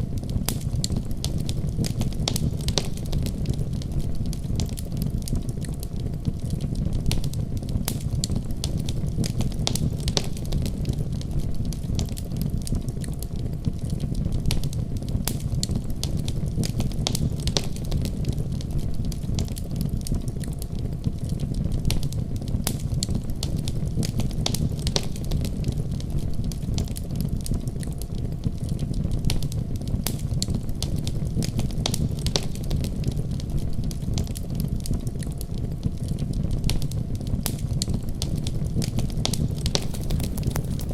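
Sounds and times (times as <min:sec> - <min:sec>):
fire crackling: 0:00.1 - 0:36.4, 0:37.9 - 0:40.9.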